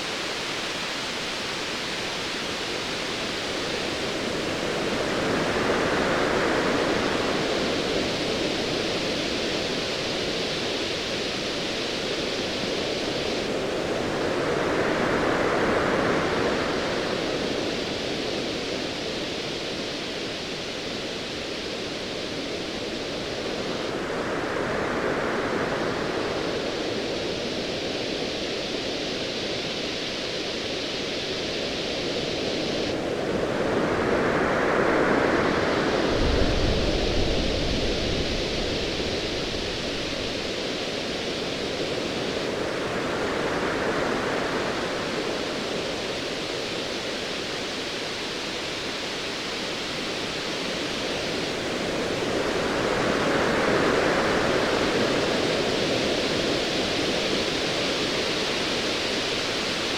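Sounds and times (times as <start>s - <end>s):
hiss of surf: 0.0s - 59.9s.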